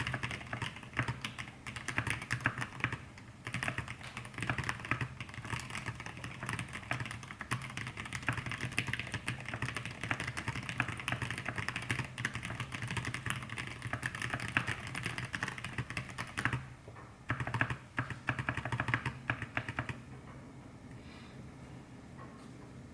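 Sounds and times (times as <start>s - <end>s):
fast mechanical keyboard typing: 0.0s - 16.7s, 17.3s - 20.0s.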